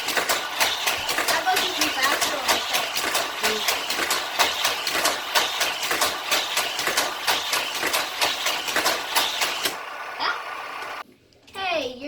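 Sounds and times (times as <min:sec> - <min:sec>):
toy cars clattering through track: 0:00.0 - 0:09.8
toy track boosters whirring: 0:00.0 - 0:11.0.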